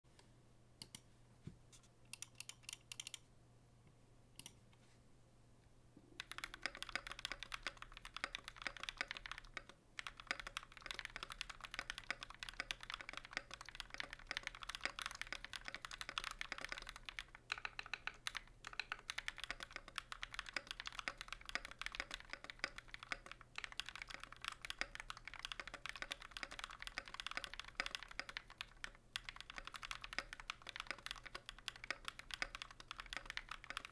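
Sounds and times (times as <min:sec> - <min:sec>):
mechanical keyboard typing: 0:02.1 - 0:03.2, 0:06.2 - 0:33.9.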